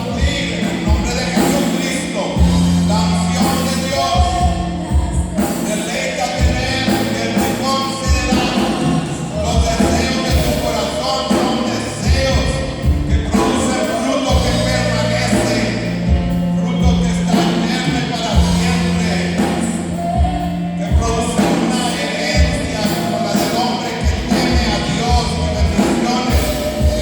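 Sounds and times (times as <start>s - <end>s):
held bass notes: 0.0s - 27.0s
person singing: 0.0s - 27.0s
steady drum beat: 0.0s - 27.0s.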